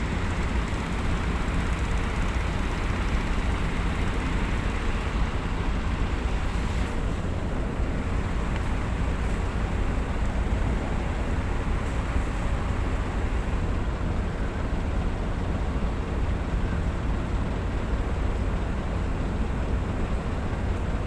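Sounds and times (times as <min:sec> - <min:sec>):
heavy engines rumbling: 0:00.0 - 0:21.0.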